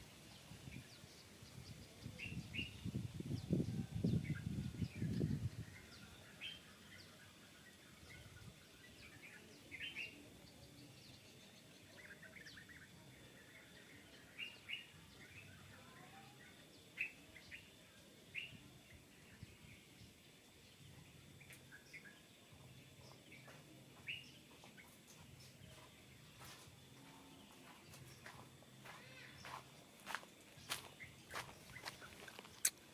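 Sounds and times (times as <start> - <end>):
faint birds chirping: 0.0 - 32.9.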